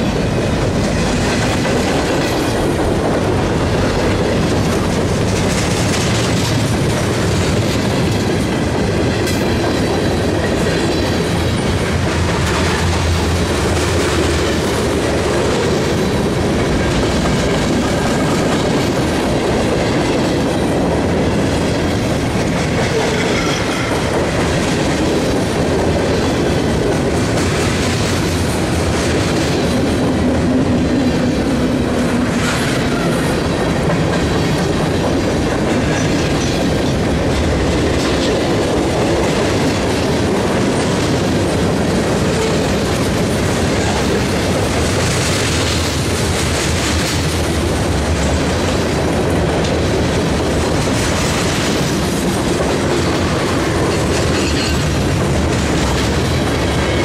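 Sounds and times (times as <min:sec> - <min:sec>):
clickety-clack over rail joints: 0:00.0 - 0:57.0
freight train wheels rumbling on rail: 0:00.0 - 0:57.0.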